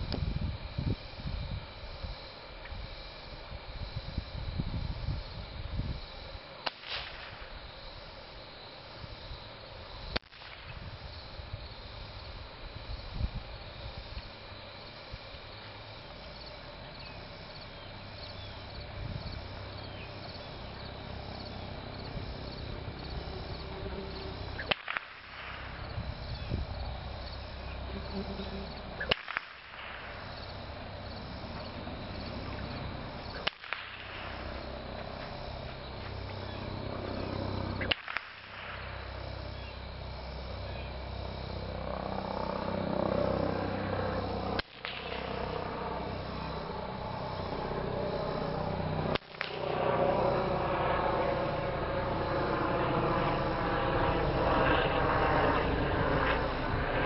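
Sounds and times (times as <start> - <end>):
insects trilling: 0.0 - 57.0
low outdoor rumble: 0.0 - 57.0.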